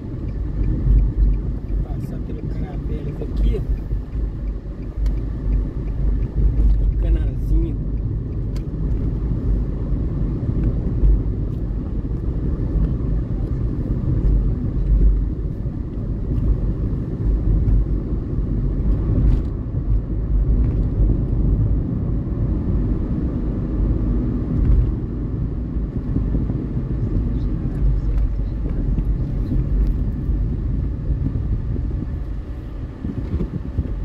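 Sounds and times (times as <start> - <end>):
car driving from inside cabin: 0.0 - 34.0.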